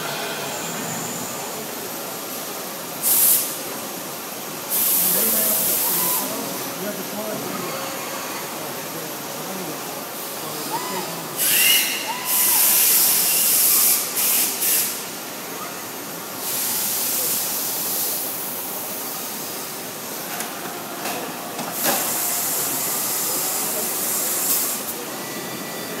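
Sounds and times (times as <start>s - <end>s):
loud hissing bursts: 0.0s - 15.3s, 16.1s - 20.0s, 21.8s - 25.0s.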